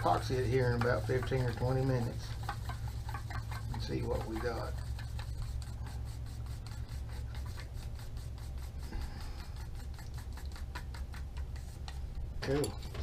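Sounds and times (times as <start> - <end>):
paint mixing scraping strokes: 0.0 - 13.0
steady low hum: 0.0 - 13.0.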